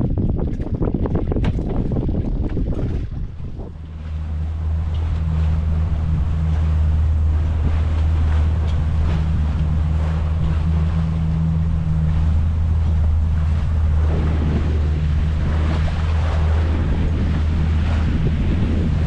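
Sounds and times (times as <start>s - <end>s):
steady low drone: 0.0s - 19.0s
water rushing along hull: 0.0s - 19.0s
wind on microphone: 0.0s - 19.0s.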